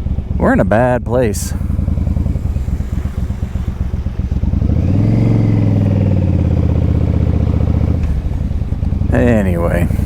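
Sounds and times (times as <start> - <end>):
motorcycle engine under throttle: 0.0 - 10.0.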